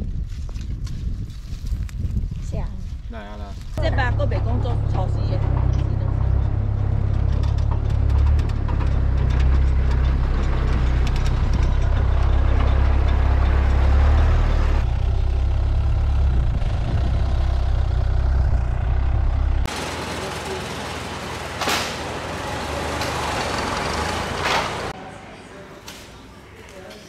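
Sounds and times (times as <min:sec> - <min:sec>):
vehicle engine low rumble: 0:00.0 - 0:25.0.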